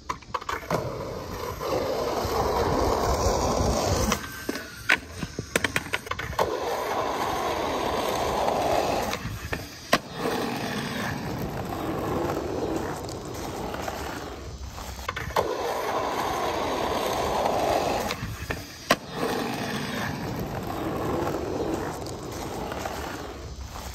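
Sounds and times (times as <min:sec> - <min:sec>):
skateboard clattering on ground: 0:00.0 - 0:23.9
skateboard tail clacks: 0:00.0 - 0:23.9
skateboard wheels rolling on asphalt: 0:00.0 - 0:23.9.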